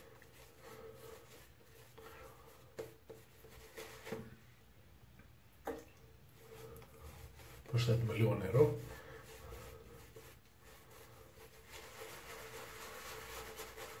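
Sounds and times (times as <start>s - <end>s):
shaving brush scrubbing face: 0.0s - 4.2s, 6.4s - 14.0s.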